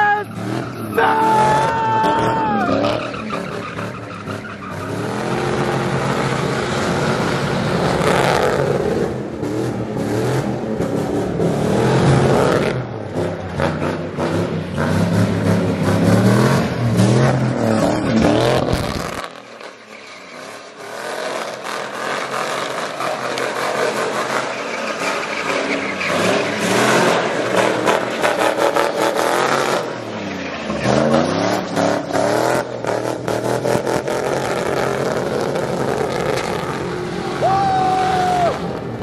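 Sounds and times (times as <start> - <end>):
truck engines revving: 0.0 - 39.0.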